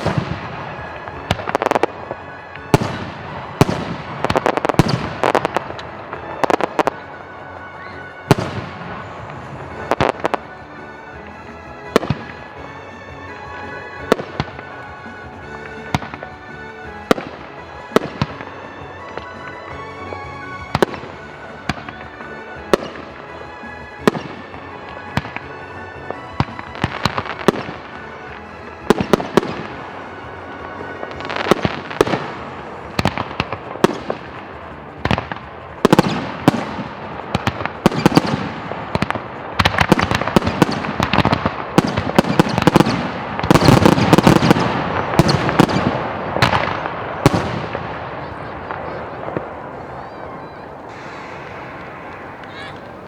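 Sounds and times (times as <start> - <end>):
background music: 0.0 - 53.0
crackling firework tails: 0.0 - 53.0
fireworks bursting: 0.0 - 53.0.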